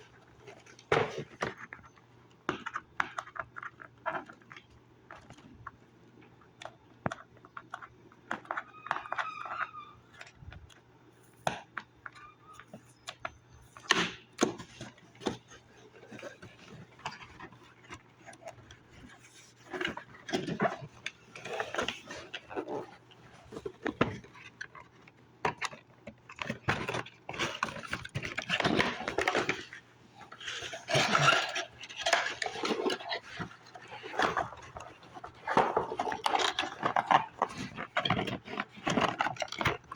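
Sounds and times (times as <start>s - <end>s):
cardboard and plastic rustling: 0.0s - 39.9s.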